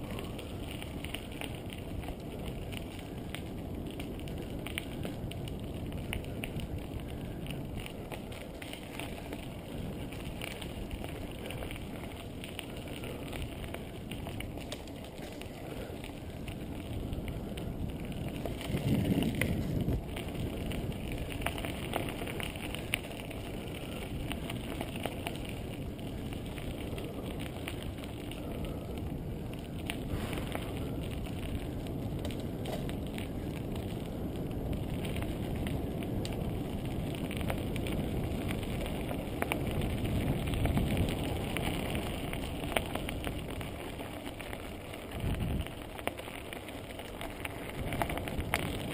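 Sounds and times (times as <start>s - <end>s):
bicycle rattles and clicks: 0.0s - 48.9s
wind and tyres on road: 0.0s - 48.9s.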